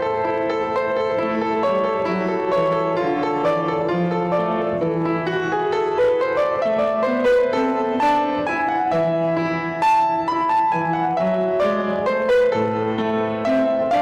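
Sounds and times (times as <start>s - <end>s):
piano melody over chords: 0.0s - 14.0s.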